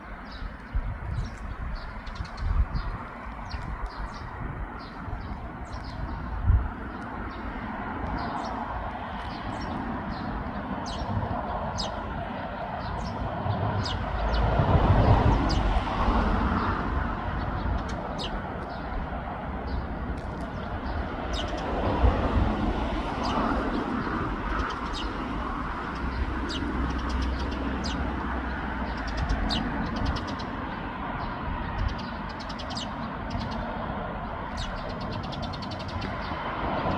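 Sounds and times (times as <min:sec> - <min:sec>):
sparrows chirping: 0:00.0 - 0:36.9
traffic noise: 0:00.0 - 0:36.9.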